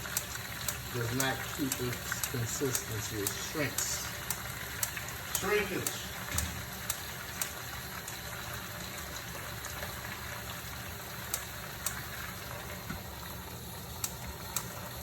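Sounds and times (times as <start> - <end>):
spinach sizzling in oil: 0.0 - 15.0.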